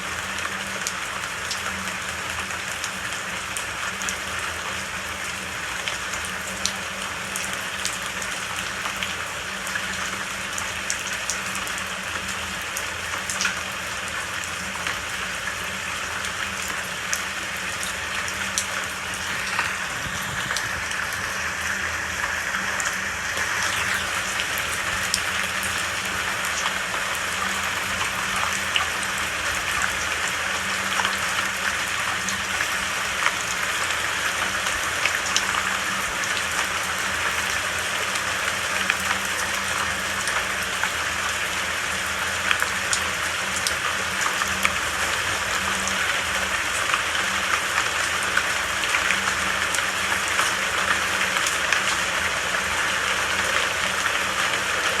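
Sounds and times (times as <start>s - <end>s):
raindrops ticking on a surface: 0.0s - 55.0s
steady rain falling: 0.0s - 55.0s.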